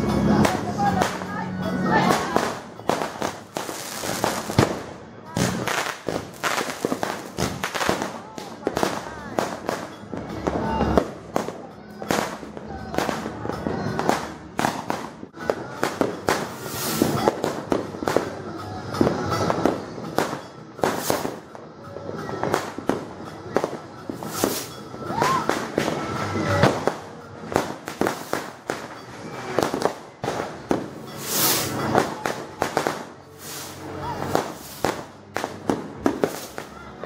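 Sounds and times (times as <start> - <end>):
fireworks banging and crackling: 0.0 - 37.0
music: 0.0 - 37.0.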